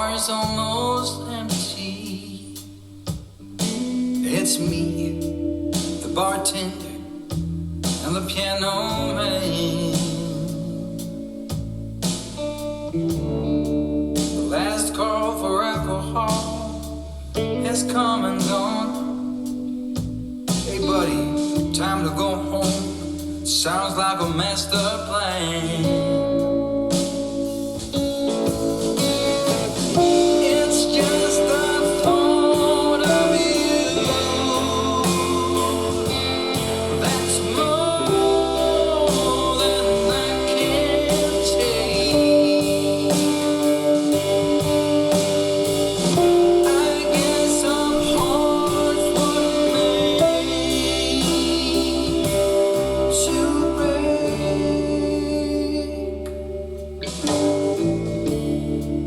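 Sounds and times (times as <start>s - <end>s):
blues-rock guitar with bass and drums: 0.0s - 59.0s.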